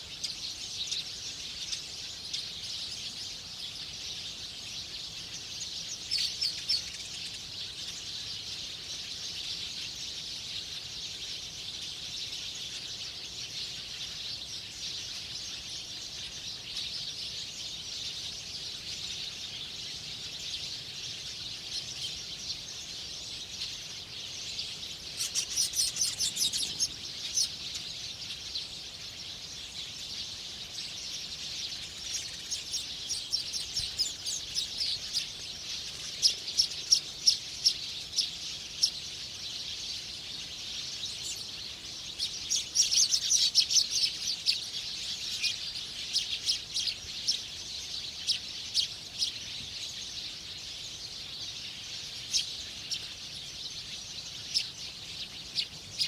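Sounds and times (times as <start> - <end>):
small birds chirping: 0.0 - 56.0
steady high-pitched hiss: 0.0 - 56.0.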